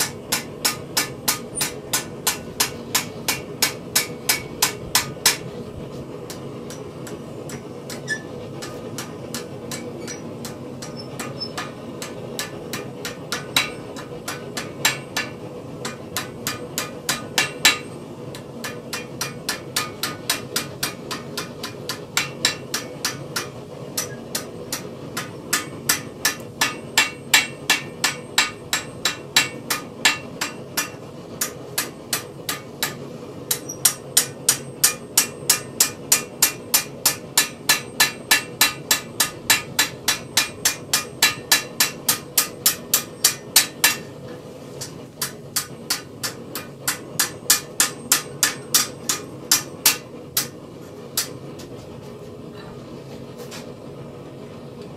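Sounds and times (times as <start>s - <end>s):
hammer striking steel: 0.0s - 5.5s, 6.3s - 44.2s, 44.8s - 51.7s.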